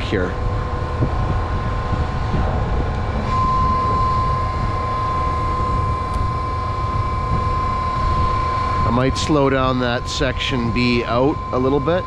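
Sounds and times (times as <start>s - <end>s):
hydraulic boom whine: 0.0s - 12.0s
low rumble: 0.0s - 12.0s.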